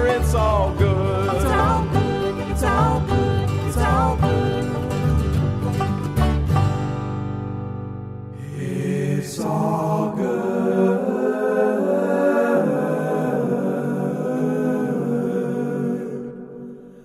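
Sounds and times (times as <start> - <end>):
voices singing in harmony: 0.0 - 5.7, 8.4 - 17.0.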